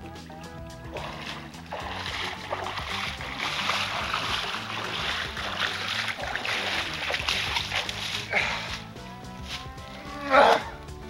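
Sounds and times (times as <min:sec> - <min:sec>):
water sloshing from wading: 0:00.8 - 0:10.7.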